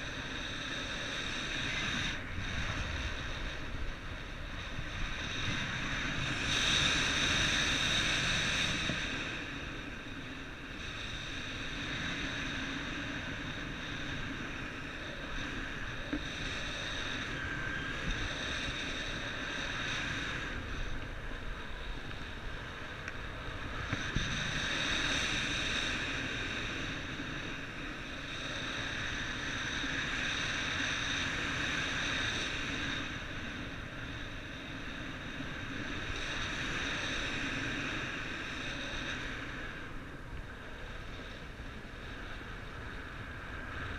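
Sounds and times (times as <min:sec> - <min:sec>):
faint high whine: 0:00.0 - 0:43.9
wind rushing over microphone: 0:00.0 - 0:43.9.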